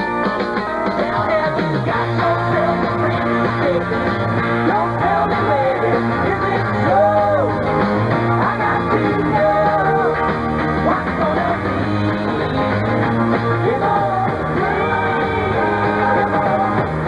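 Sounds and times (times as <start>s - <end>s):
bass line: 0.0s - 17.0s.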